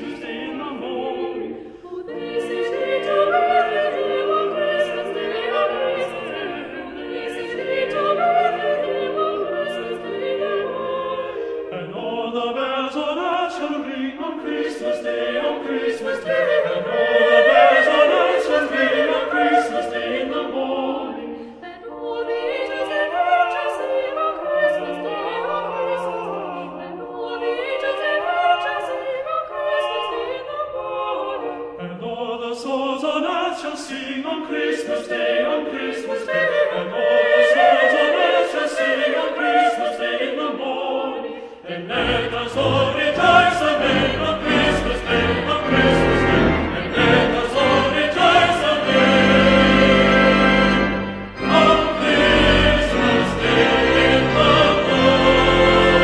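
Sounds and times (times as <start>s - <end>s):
classical accompaniment: 0.0s - 32.0s, 33.2s - 56.0s
choral operatic singing: 0.0s - 56.0s.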